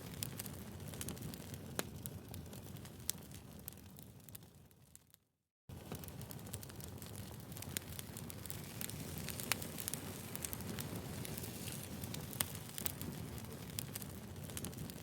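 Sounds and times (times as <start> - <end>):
firewood crackling: 0.0 - 4.4, 5.7 - 15.0.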